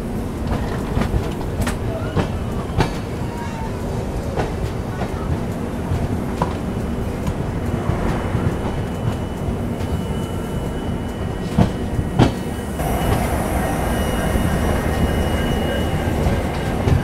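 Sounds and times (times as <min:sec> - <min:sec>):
train rumbling on track: 0:00.0 - 0:17.0
hiss: 0:01.6 - 0:17.0.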